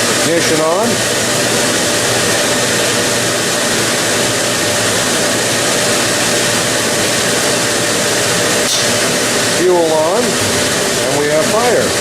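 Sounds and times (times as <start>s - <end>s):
boiler fan whooshing hum: 0.0s - 12.0s.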